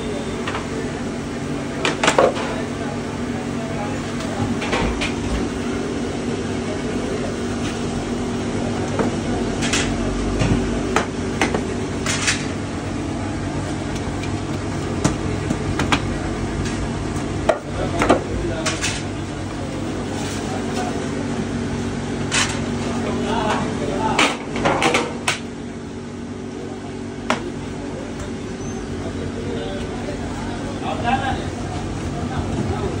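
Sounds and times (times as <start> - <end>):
steady machine hum: 0.0 - 33.0.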